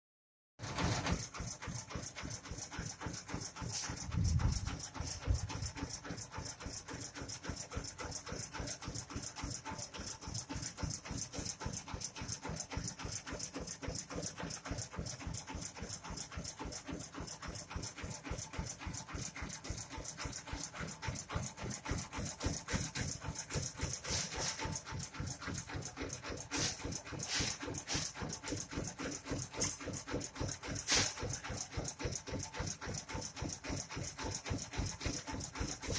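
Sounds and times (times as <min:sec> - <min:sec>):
diesel engine chugging: 0:01.1 - 0:35.9.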